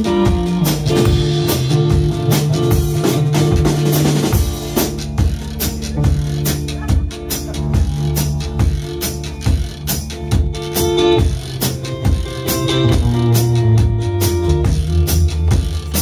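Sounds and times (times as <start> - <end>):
drum kit beat: 0.0 - 16.0
electric guitars: 0.0 - 16.0.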